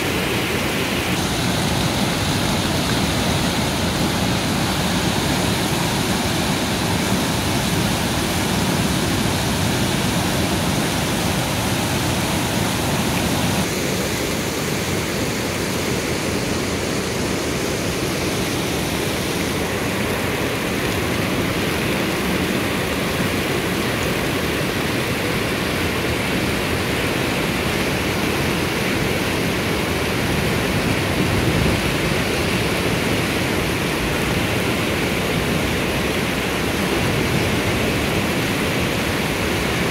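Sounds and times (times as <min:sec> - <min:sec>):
stream rushing turbulent water: 0:00.0 - 0:39.9.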